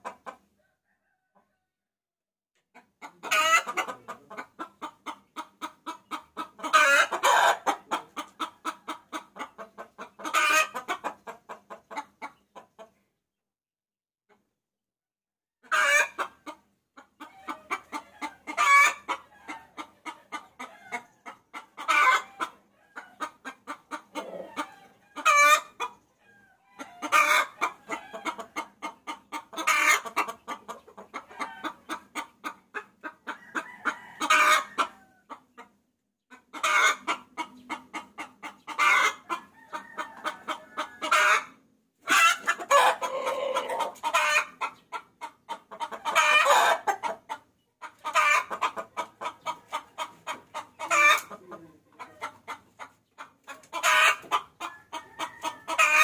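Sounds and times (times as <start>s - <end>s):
hen cackling and squawking: 2.7s - 13.0s, 15.6s - 56.0s.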